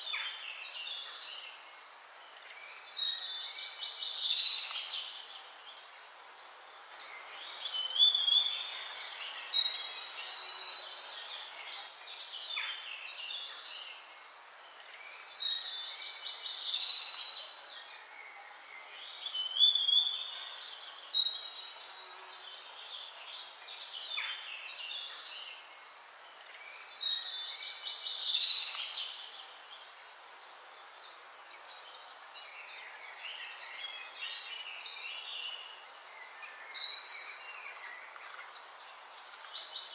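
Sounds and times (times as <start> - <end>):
faint steady hiss: 0.0 - 39.9
songbirds chirping and warbling: 0.0 - 39.9.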